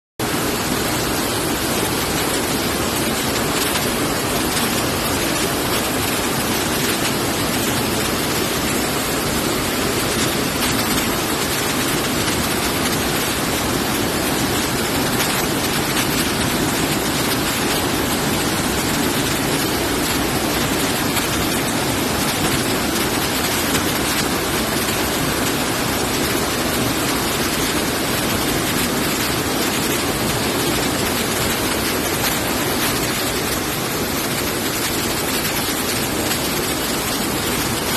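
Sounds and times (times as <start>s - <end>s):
waterfall rushing: 0.2s - 37.9s.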